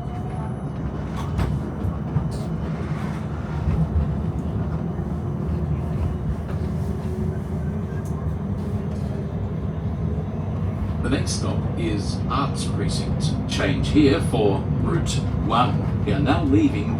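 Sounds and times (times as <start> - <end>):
tram rumbling on tracks: 0.0 - 16.9.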